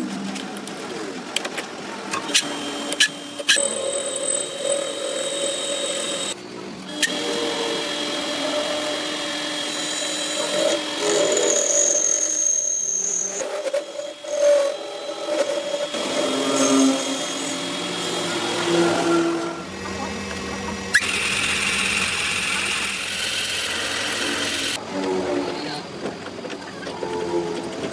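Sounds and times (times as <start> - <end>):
power tools whining: 2.1 - 27.9.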